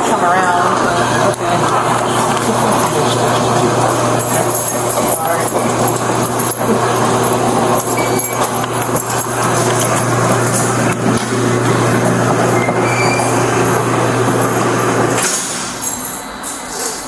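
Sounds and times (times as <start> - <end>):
loud mechanical rumble: 0.0 - 17.0.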